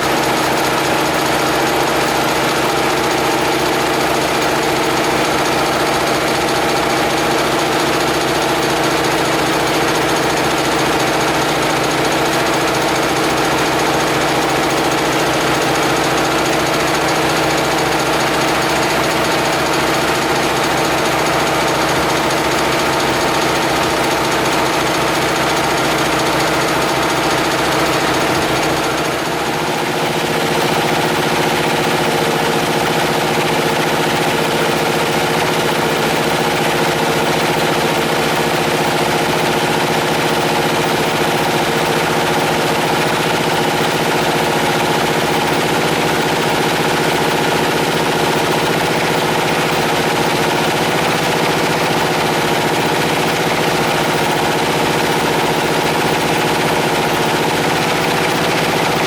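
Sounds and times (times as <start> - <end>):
air compressor pounding: 0.0 - 59.0.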